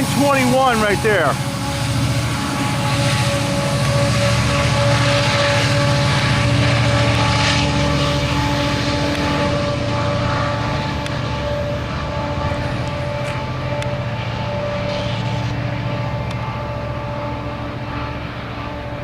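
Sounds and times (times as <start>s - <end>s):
diesel locomotive engine hum: 0.0s - 19.0s
steady whining tones: 0.0s - 19.0s.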